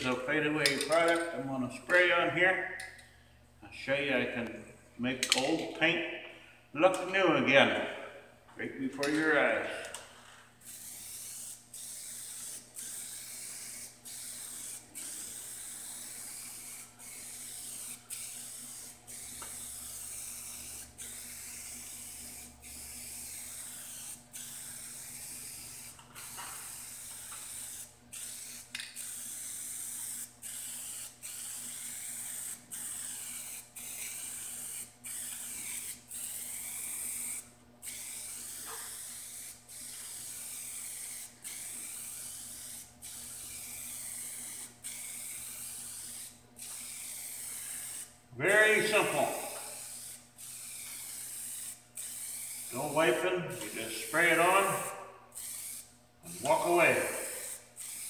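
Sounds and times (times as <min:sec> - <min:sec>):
aerosol spray can hissing: 0:10.6 - 0:58.0.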